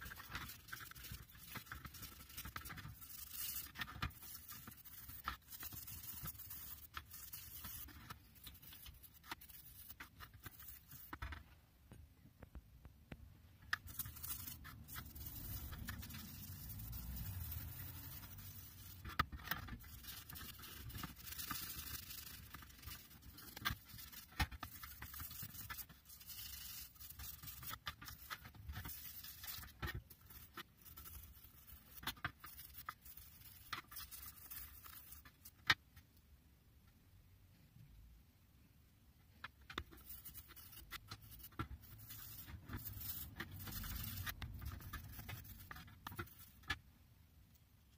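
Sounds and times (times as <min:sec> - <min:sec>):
toothbrush scrubbing metal: 0:00.0 - 0:11.2, 0:13.8 - 0:35.5, 0:39.9 - 0:46.7.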